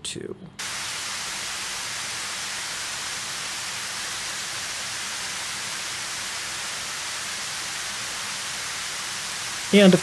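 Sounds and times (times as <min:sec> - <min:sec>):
water rushing over spillway: 0:00.6 - 0:10.0.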